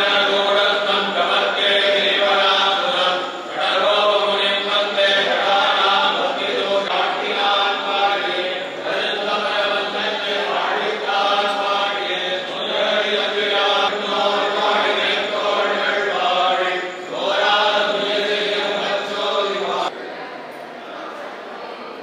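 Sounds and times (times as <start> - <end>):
voices chanting together: 0.0 - 20.2.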